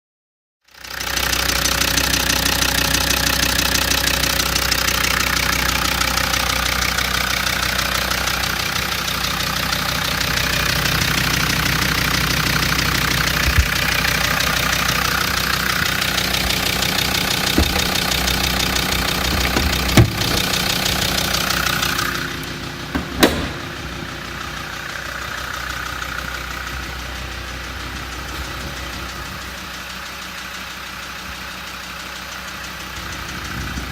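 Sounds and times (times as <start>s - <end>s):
diesel engine running with rattling: 0.6s - 33.9s
engine knocks: 0.9s - 33.9s.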